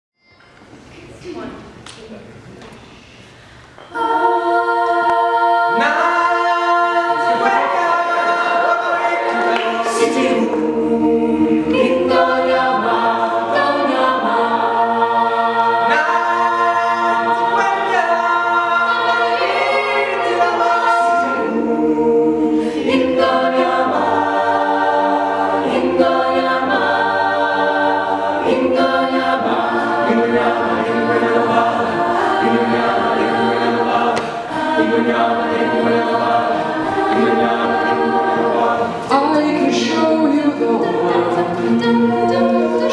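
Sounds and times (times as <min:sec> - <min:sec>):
a cappella group singing in harmony: 0:03.5 - 0:42.9.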